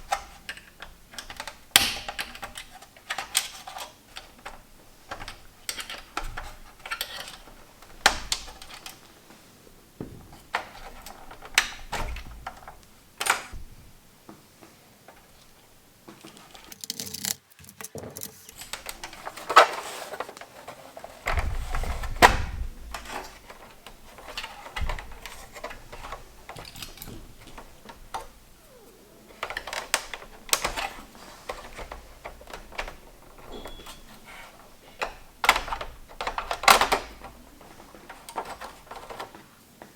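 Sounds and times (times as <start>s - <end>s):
plastic and metal parts clicking: 0.0s - 9.4s, 10.0s - 14.0s, 15.1s - 39.4s.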